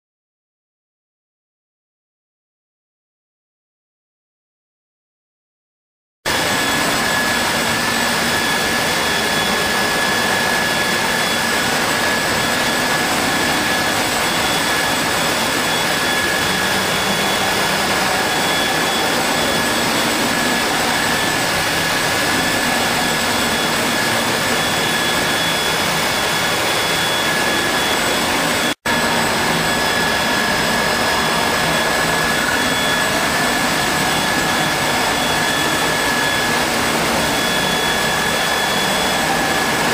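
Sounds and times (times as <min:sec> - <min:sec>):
machine whine and hiss: 0:06.3 - 0:39.9.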